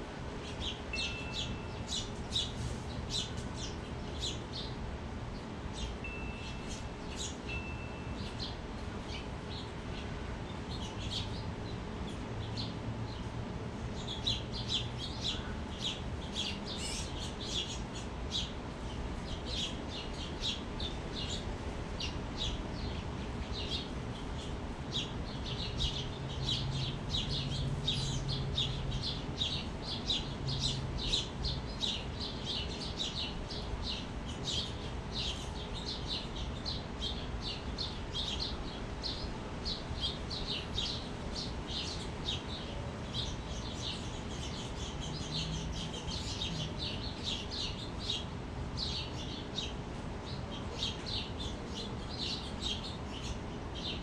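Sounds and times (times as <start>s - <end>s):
birds chirping rapidly: 0.2s - 54.0s.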